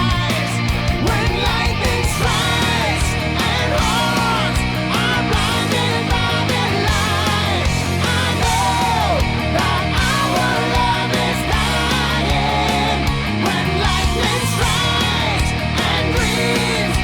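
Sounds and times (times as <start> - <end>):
heavy metal band playing: 0.0 - 17.0
melodic guitar lead bending: 0.0 - 17.0.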